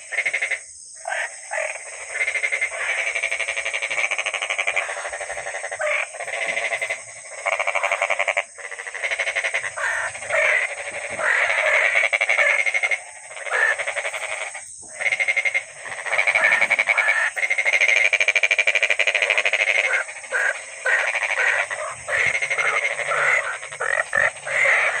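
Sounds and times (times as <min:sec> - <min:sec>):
frogs croaking: 0:00.0 - 0:25.0.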